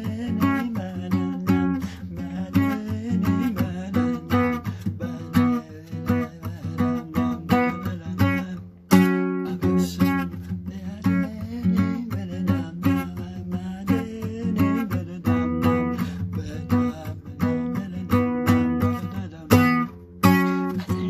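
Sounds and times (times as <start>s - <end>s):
loud guitar strum: 0.0s - 21.0s
plucked guitar notes: 0.0s - 21.0s.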